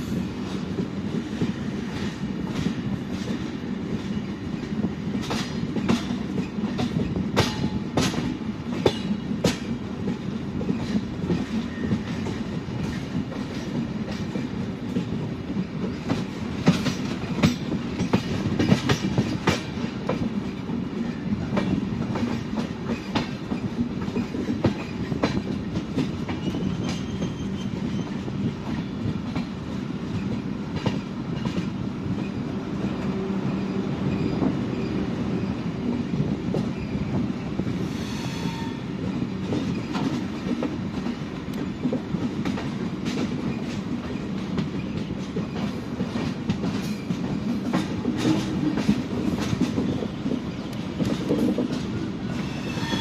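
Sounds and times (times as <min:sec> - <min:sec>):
train running gear rumble: 0:00.0 - 0:53.0.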